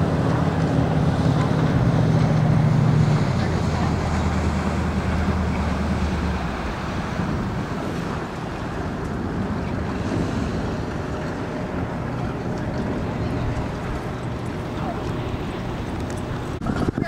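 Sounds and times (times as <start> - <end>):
water splashing along boat hull: 0.0 - 17.0
wind buffeting microphone: 0.0 - 17.0.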